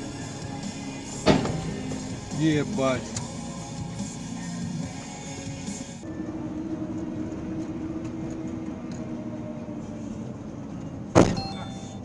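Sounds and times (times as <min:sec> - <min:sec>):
truck engine and road drone: 0:00.0 - 0:12.0.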